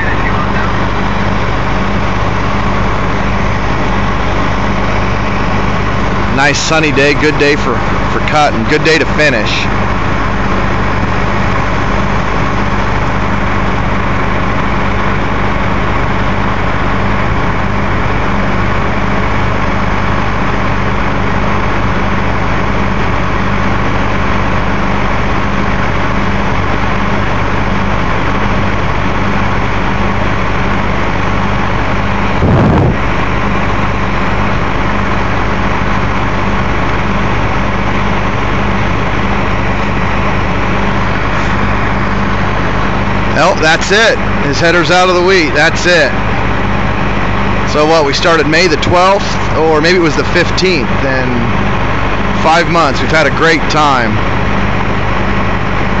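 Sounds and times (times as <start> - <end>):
combine harvester engine drone: 0.0 - 56.0.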